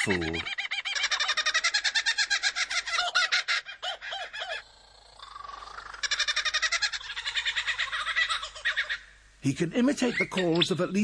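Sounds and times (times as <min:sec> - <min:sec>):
lyrebird singing: 0:00.0 - 0:11.0.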